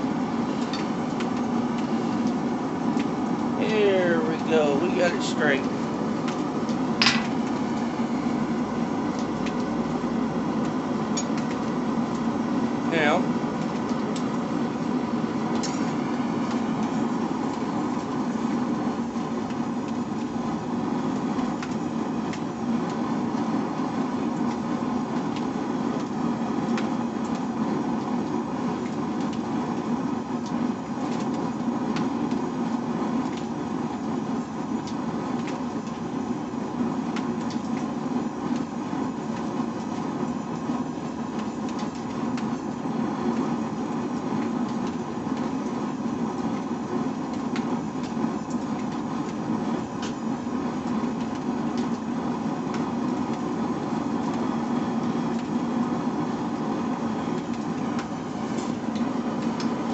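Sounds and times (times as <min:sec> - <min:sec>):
forge fire rushing: 0:00.0 - 0:59.9.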